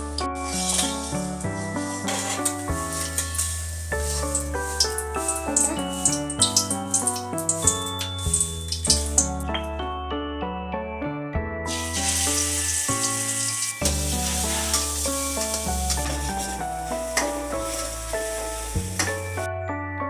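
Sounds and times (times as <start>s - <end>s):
background music: 0.0s - 20.0s
food sizzling in hot oil: 0.3s - 9.4s, 11.7s - 19.5s.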